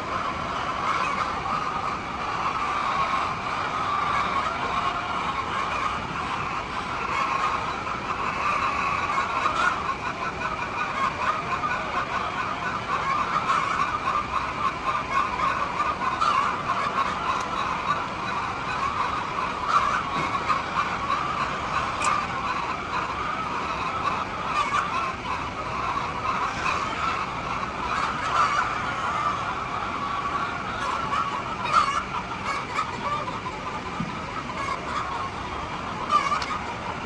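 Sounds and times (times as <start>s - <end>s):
chickens clucking and squawking: 0.0s - 37.0s.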